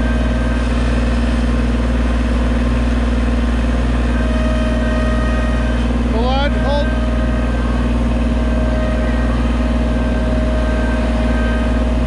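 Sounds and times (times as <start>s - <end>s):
construction machine engines humming: 0.0s - 12.0s
thin steady whine: 0.0s - 12.0s.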